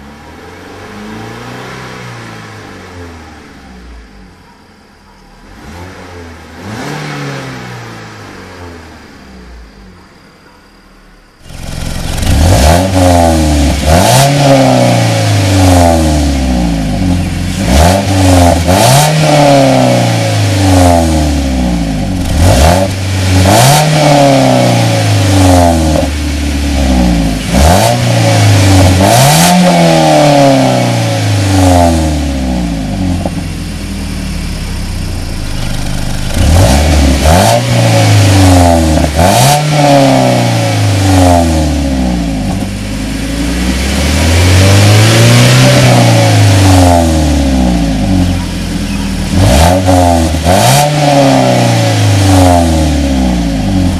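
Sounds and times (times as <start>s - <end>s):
car engine revving: 0.0s - 10.1s, 11.3s - 53.9s.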